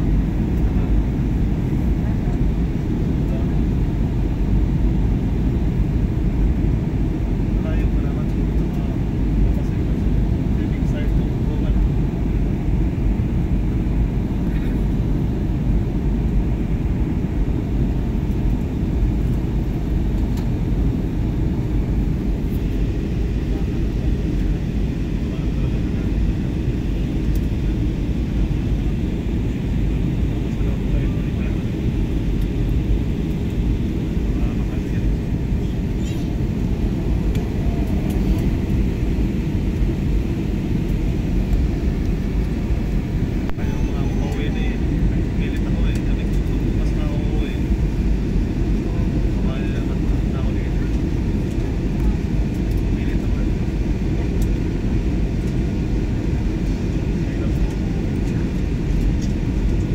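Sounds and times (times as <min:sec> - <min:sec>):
jet airliner cabin drone: 0:00.0 - 0:59.9.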